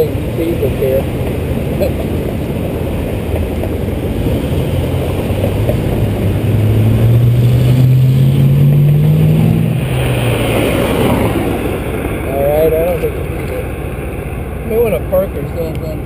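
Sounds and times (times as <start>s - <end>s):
engine accelerating: 0.0s - 16.0s
low rumble of traffic: 0.0s - 16.0s.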